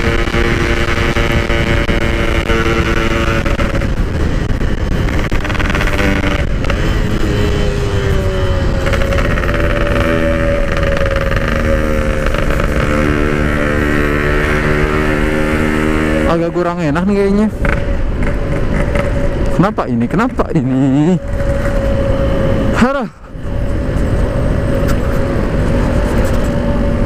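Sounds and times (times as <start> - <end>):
two-stroke motorcycle engine: 0.0 - 27.0
wind noise on microphone: 0.0 - 27.0.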